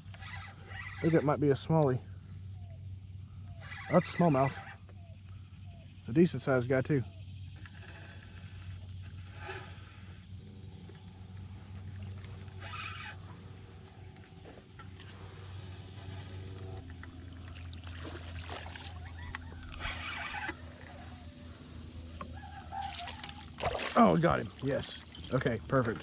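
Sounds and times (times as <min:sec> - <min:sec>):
high-pitched insect drone: 0:00.0 - 0:26.0
river ambience: 0:00.0 - 0:26.0
low steady hum: 0:04.7 - 0:26.0.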